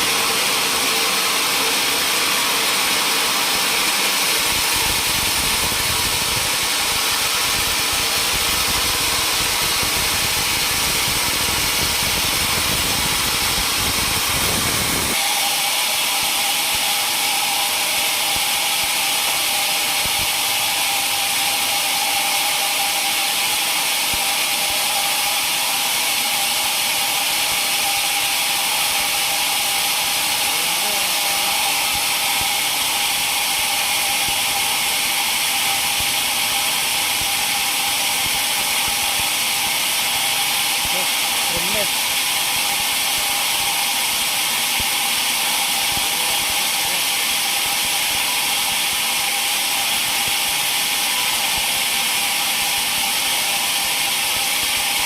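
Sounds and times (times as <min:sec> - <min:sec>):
sawmill saw cutting timber: 0:00.0 - 0:55.0
steady whine: 0:00.0 - 0:55.0.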